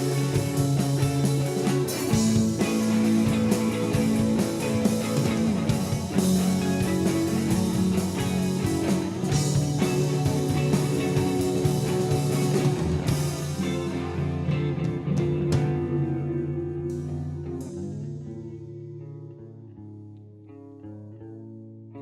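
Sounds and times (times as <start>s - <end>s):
rock band playing: 0.0s - 18.9s
sustained guitar notes: 0.0s - 21.2s.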